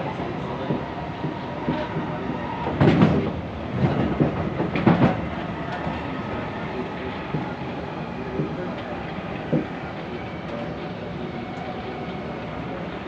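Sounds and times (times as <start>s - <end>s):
loud train clunks: 0.0s - 13.0s
train wheels rumbling on rail: 0.0s - 13.0s.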